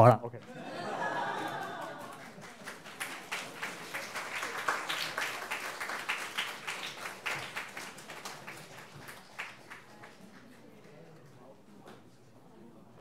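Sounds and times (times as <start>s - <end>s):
small audience applause: 0.5s - 11.4s.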